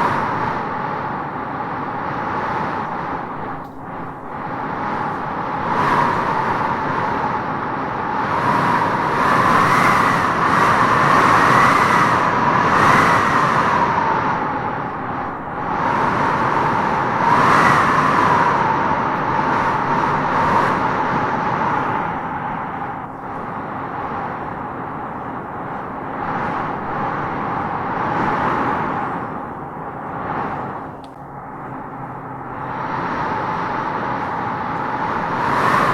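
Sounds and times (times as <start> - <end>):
wind howling through trees: 0.0 - 35.9.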